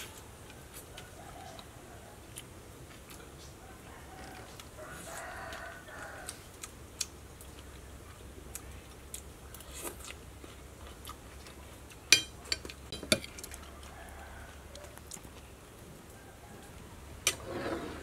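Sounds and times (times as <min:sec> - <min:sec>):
soft chewing: 0:00.0 - 0:16.8.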